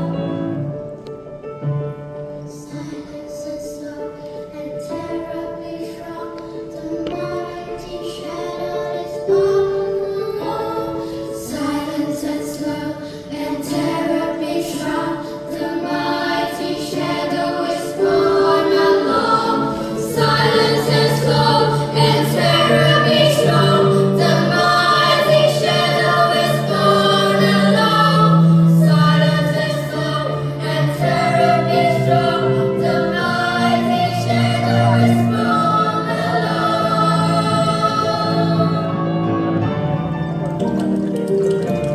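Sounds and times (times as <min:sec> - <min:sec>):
children's choir singing: 0:00.0 - 0:01.1, 0:02.2 - 0:41.9.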